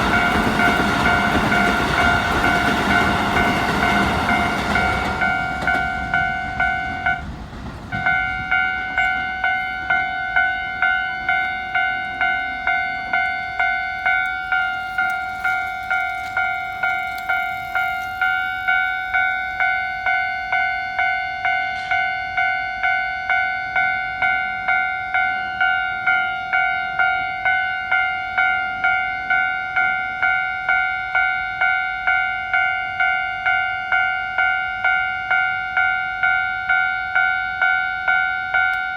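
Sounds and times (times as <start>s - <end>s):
level crossing alarm dinging: 0.0s - 7.3s, 8.0s - 38.9s.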